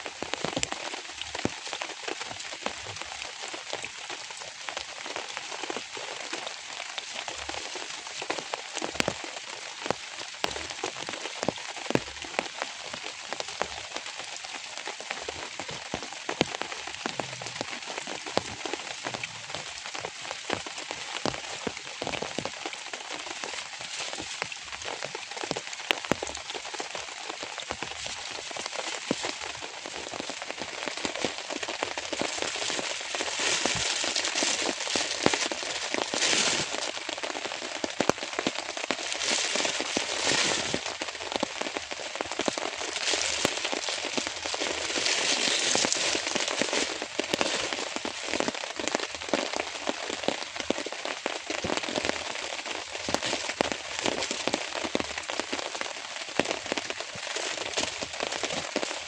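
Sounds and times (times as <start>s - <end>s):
rain drops ticking on a surface: 0.0s - 59.0s.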